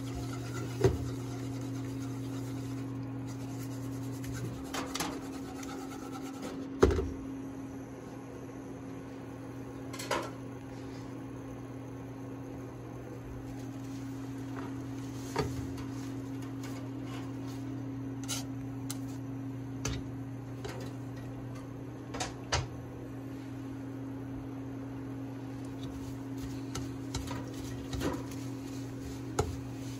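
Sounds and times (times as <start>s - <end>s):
low electrical hum: 0.0s - 29.9s.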